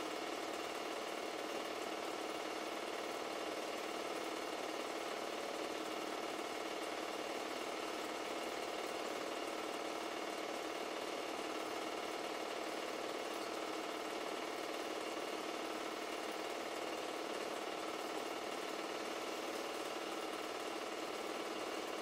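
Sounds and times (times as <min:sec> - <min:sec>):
film projector rattling: 0:00.1 - 0:22.0.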